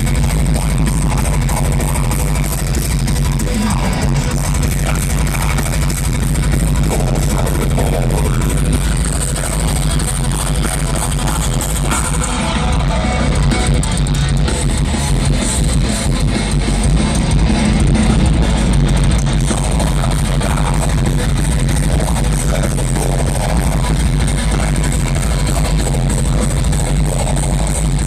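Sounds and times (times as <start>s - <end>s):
distorted electric guitars: 0.0s - 28.0s
heavy booming bass: 0.0s - 28.0s.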